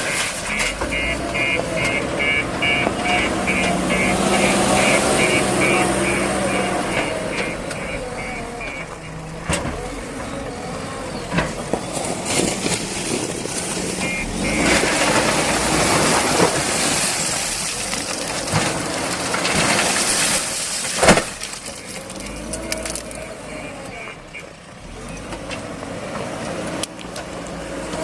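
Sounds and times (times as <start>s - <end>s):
backhoe diesel engine running: 0.0s - 28.0s.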